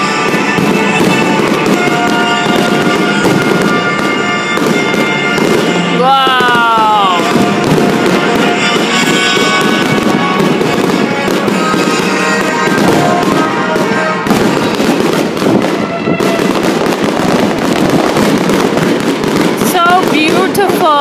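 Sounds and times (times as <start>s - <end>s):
music playing: 0.0s - 19.5s
fireworks crackling and popping: 0.0s - 21.0s.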